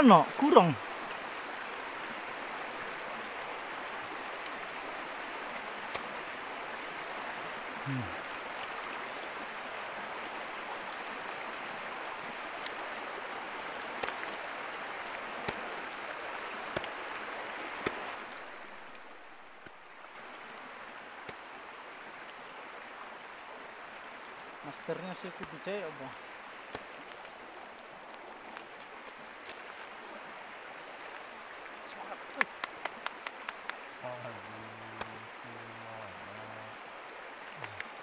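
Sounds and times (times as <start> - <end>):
stream running over stones: 0.0 - 38.0.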